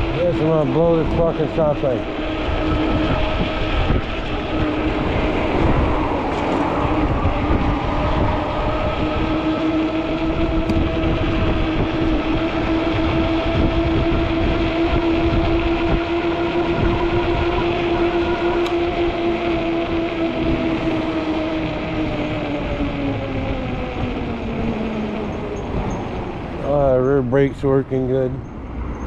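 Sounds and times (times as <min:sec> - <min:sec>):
e-bike hum: 0:00.0 - 0:29.0
wind on microphone: 0:00.0 - 0:29.0.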